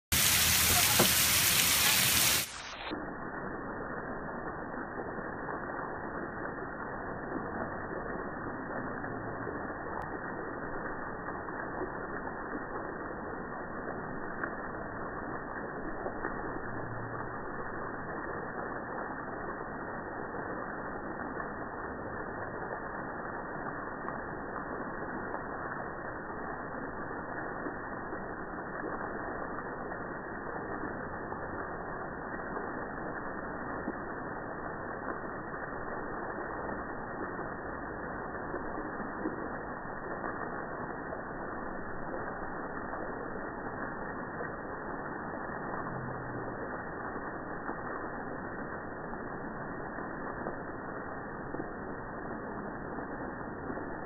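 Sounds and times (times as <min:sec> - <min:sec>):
slowed rain low rushing: 0:00.0 - 0:54.0.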